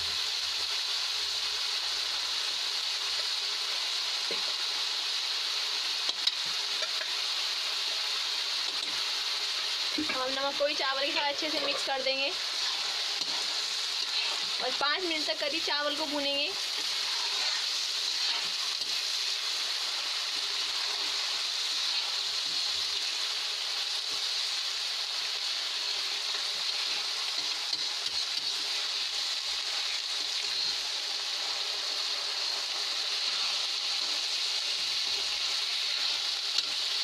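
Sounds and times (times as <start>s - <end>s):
rice sizzling in hot oil: 0.0s - 37.0s.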